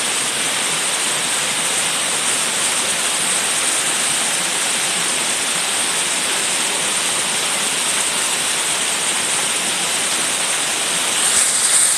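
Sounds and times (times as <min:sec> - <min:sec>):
waterfall rushing hiss: 0:00.0 - 0:11.9.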